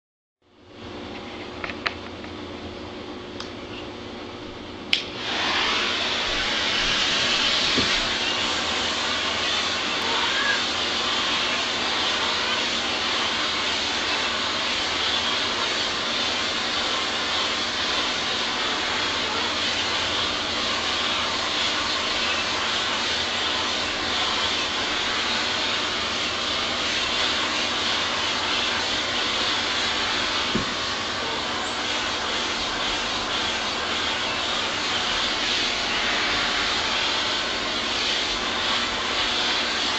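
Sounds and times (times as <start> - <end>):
vacuum cleaner motor running: 3.6 - 39.9.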